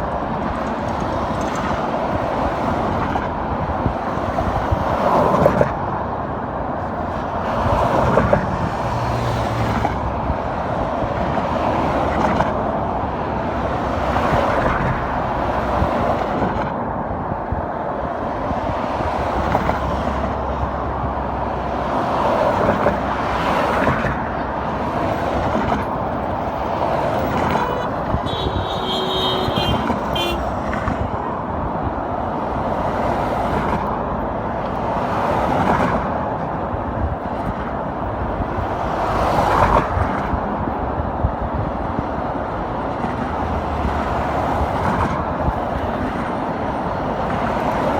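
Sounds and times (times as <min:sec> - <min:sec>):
cars passing: 0:00.0 - 0:47.9.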